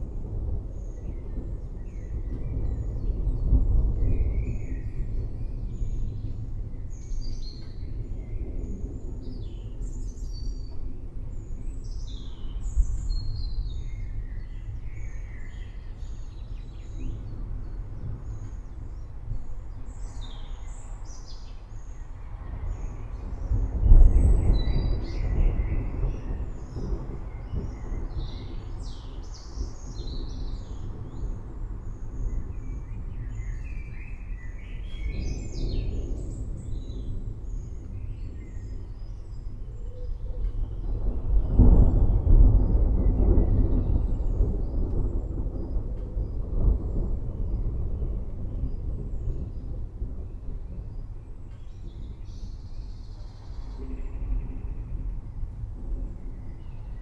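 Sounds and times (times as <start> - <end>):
rumble of thunder: 0.0 - 57.0.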